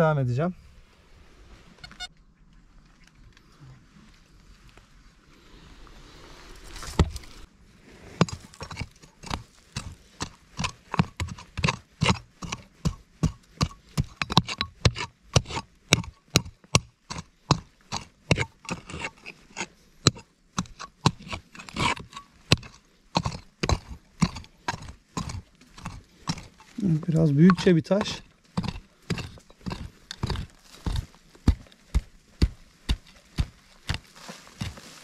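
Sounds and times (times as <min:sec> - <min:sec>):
mattock striking stony soil: 0:06.5 - 0:35.0.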